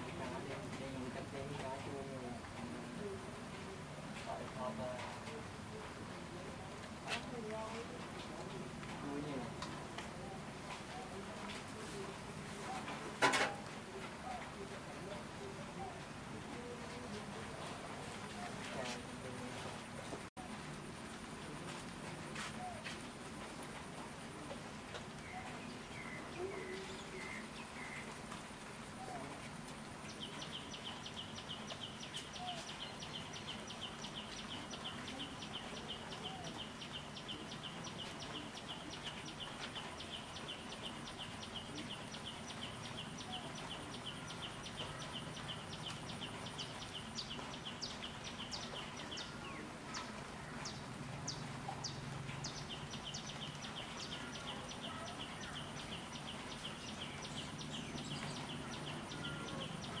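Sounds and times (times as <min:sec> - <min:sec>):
birds chirping: 0:00.0 - 1:00.0.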